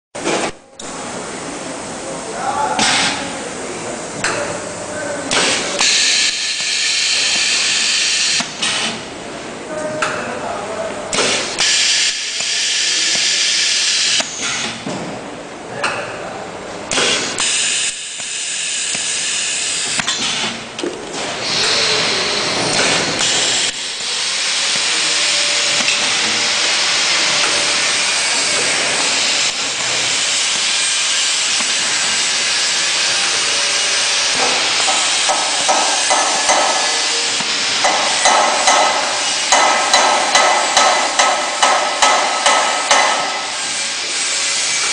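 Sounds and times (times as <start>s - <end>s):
welding machine hiss: 2.8s - 3.4s, 5.3s - 9.1s, 11.1s - 14.8s, 16.9s - 44.9s.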